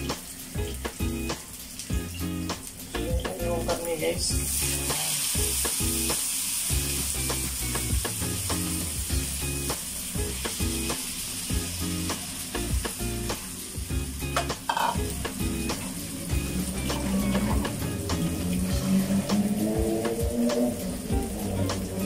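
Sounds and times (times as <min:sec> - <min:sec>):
beef sizzling in frying pan: 0:00.0 - 0:22.0.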